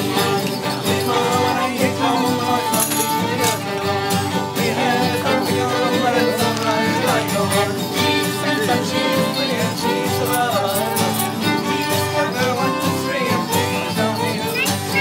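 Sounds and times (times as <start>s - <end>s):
fiddle and acoustic guitars: 0.0s - 15.0s
man singing: 0.0s - 15.0s.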